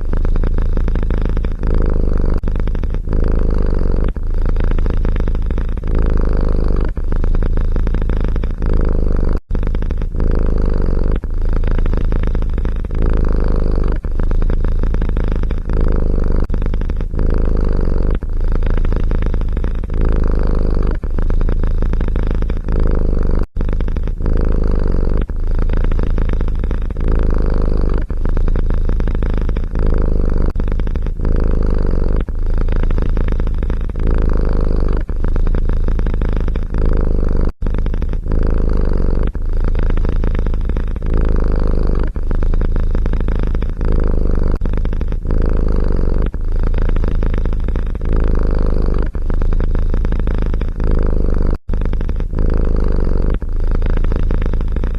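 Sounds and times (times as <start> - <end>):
cat purring: 0.0 - 54.9.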